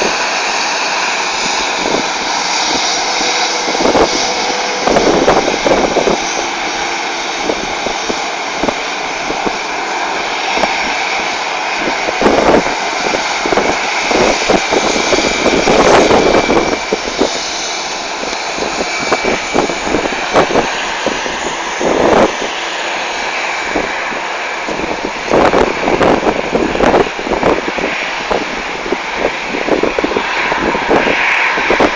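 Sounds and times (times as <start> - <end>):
faint high engine whine: 0.0 - 31.9
jet engines roaring: 0.0 - 31.9.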